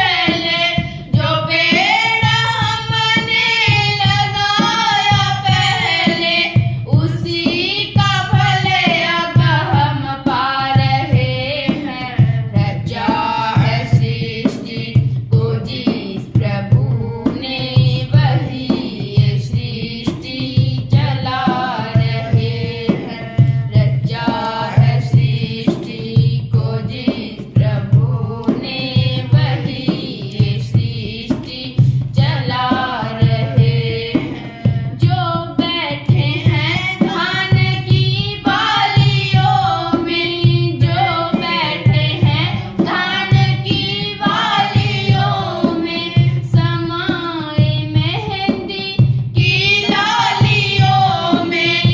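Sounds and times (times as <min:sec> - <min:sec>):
tabla-like drum beat: 0:00.0 - 0:51.9
woman singing devotional song: 0:00.0 - 0:51.9.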